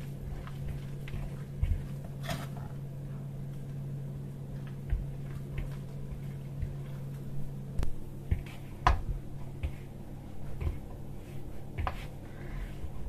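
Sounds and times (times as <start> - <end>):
dough squishing: 0.0 - 13.0
steady low hum: 0.0 - 13.0.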